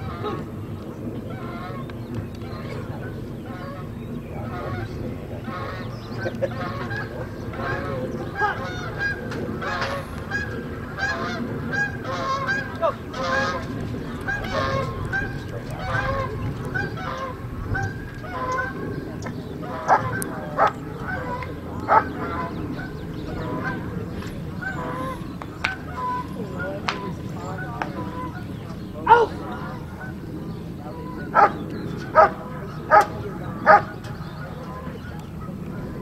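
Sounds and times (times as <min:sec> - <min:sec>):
geese honking: 0:00.0 - 0:36.0
low steady rumble: 0:00.0 - 0:36.0.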